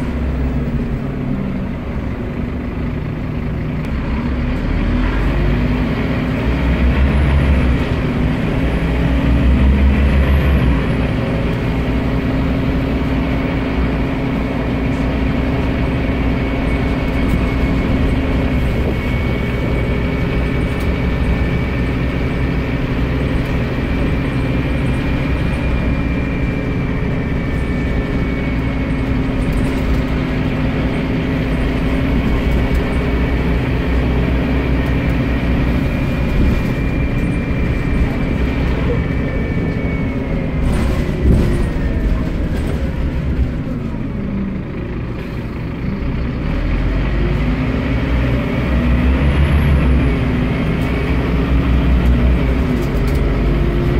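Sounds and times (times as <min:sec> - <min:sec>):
bus diesel engine drone: 0:00.0 - 0:53.9
road and body noise: 0:00.0 - 0:53.9.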